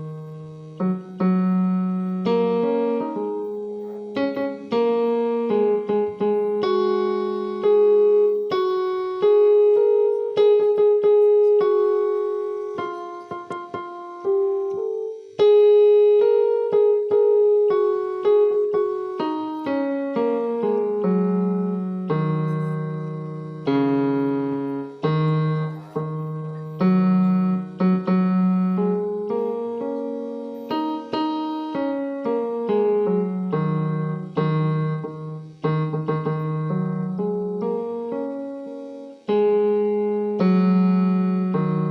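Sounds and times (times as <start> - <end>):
slow solo piano piece: 0.0 - 41.9.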